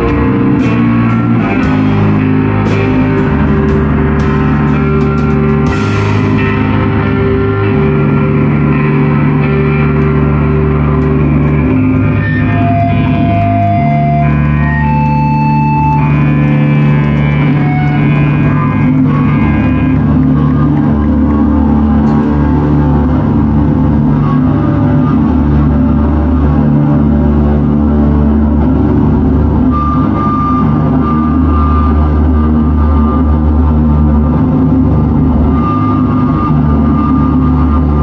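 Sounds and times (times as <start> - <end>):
distorted electric guitars: 0.0 - 38.0
low sustained bass drone: 0.0 - 38.0.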